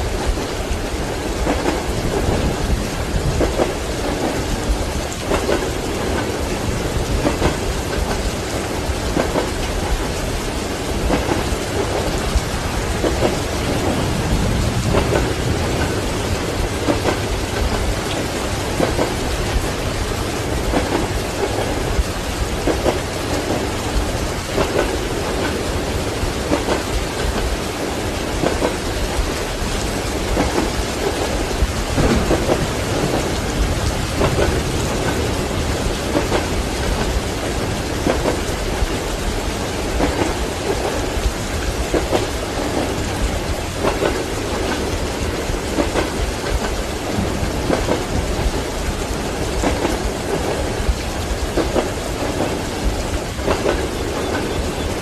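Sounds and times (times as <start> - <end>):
heavy rain: 0.0 - 55.0
rolling thunder: 0.0 - 55.0
train wheels clacking over rail joints: 0.1 - 55.0.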